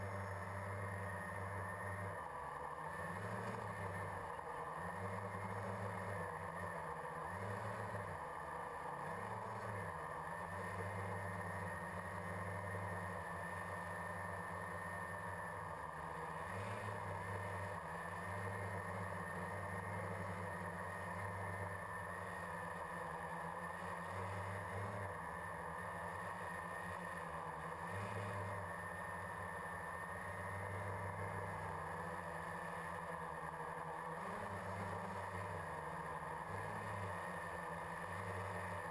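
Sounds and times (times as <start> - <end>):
drone propellers droning: 0.0 - 38.9.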